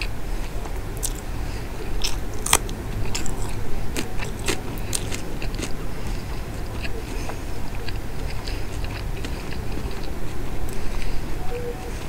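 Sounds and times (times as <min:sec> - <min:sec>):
chilli biting and crunching: 0:01.0 - 0:10.8.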